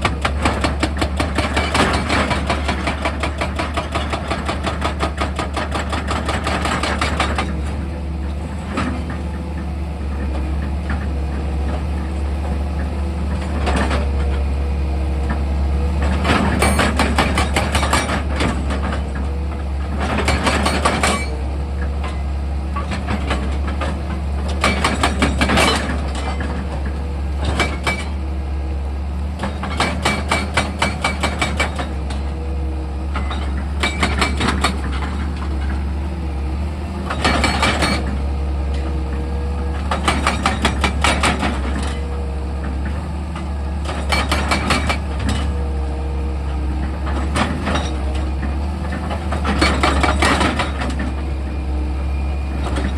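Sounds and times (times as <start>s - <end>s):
diesel engine humming: 7.3s - 52.9s.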